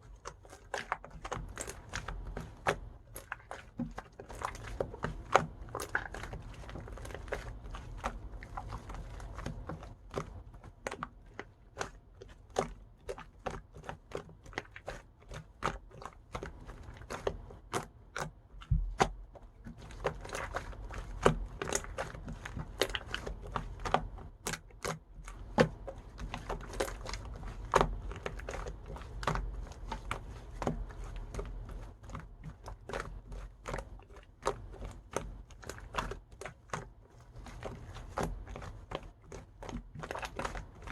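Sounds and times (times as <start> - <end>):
crisp crunching and cracking: 0.1 - 40.9.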